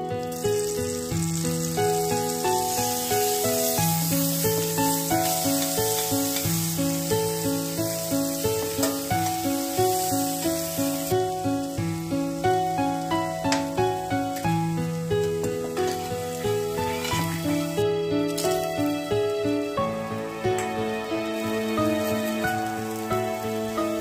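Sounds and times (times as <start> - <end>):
butter sizzling in a frying pan: 0.2 - 24.0.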